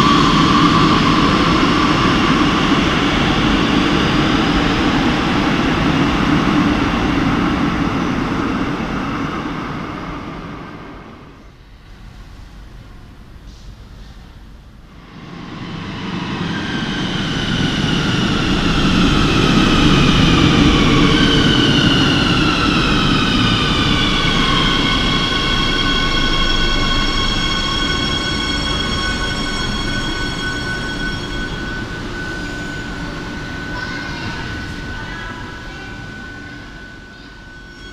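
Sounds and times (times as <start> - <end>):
train rumble: 0.0 - 37.9.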